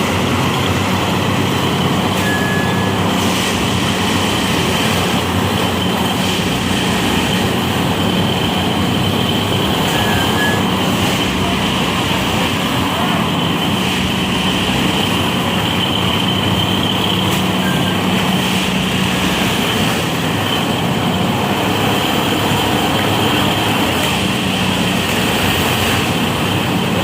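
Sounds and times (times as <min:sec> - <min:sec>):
high whine: 0:00.0 - 0:27.0
machine engine drone: 0:00.0 - 0:27.0.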